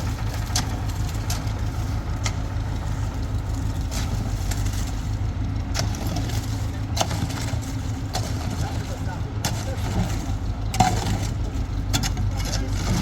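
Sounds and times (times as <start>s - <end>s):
machinery engine rumbling: 0.0s - 13.0s.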